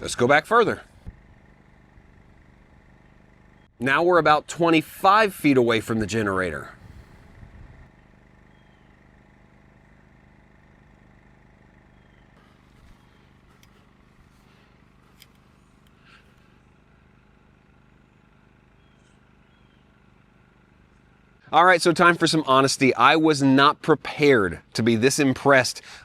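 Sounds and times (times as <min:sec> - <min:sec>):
generator humming: 0:00.0 - 0:26.0.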